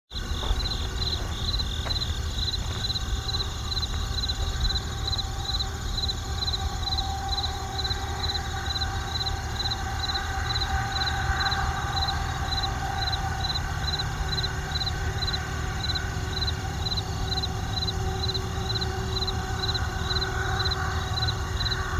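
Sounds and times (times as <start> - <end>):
crickets chirping: 0.1 - 21.9
distant road traffic rumble: 0.1 - 21.9.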